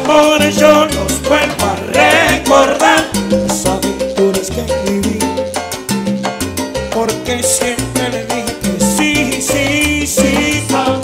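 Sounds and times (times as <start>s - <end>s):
bass line: 0.0s - 11.0s
latin percussion: 0.0s - 11.0s
salsa band playing: 0.0s - 11.0s.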